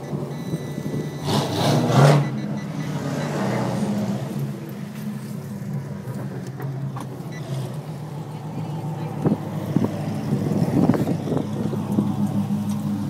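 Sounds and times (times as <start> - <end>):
car engine running: 2.2 - 13.0.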